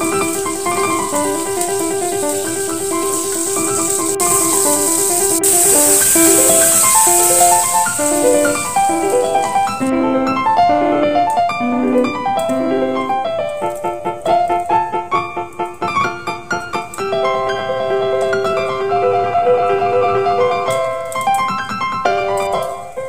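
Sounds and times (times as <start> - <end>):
brisk piano melody: 0.0 - 23.0.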